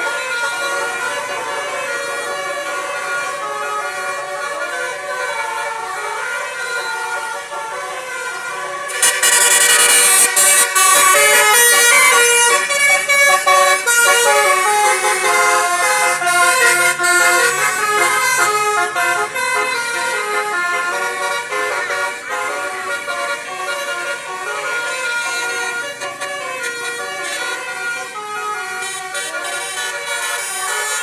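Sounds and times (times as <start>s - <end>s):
multi-tone air horn melody: 0.0s - 31.0s.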